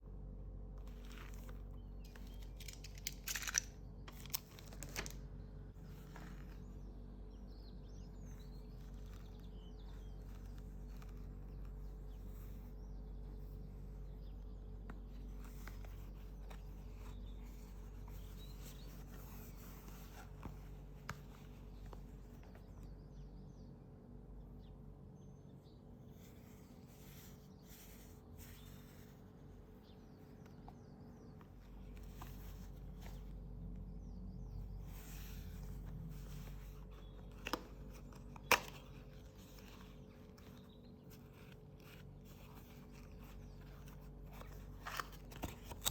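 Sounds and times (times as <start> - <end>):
faint hum: 0.0 - 45.9
faint bird chirps: 5.4 - 45.9.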